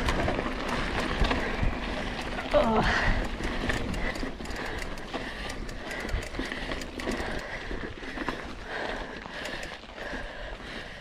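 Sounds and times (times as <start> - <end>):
wind rumbling on microphone: 0.0 - 10.1
bike rattling with clicks: 0.0 - 10.8.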